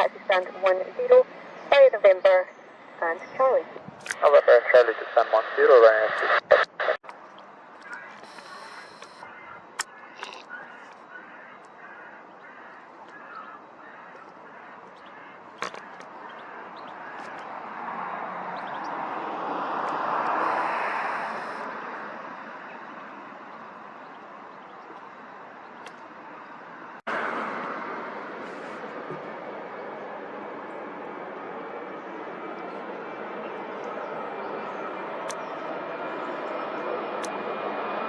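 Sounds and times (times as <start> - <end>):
jet airliner passing: 0.0 - 9.8, 10.5 - 38.0.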